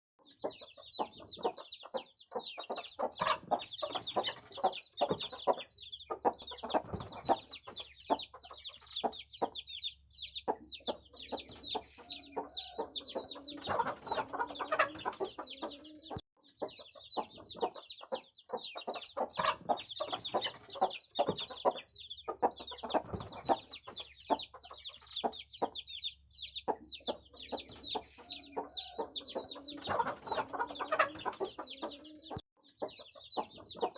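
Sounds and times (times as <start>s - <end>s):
chicken clucks: 0.2s - 33.9s
chicks peeping: 0.2s - 33.9s.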